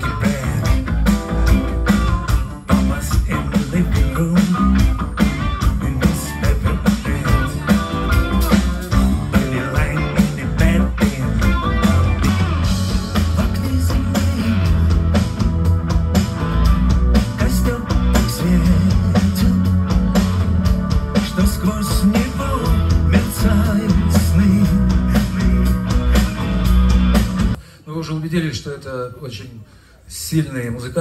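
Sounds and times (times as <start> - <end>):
live rock band playing: 0.0 - 27.6.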